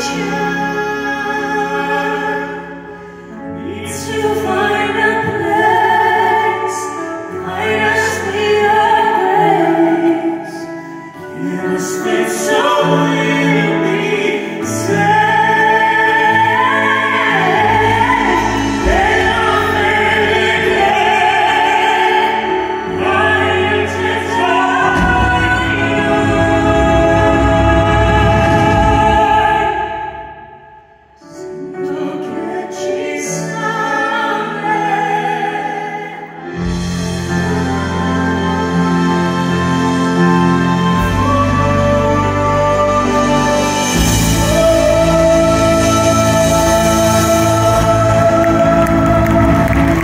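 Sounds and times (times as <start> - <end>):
operatic tenor singing: 0.0 - 30.6, 31.2 - 50.0
grand piano: 0.0 - 50.0.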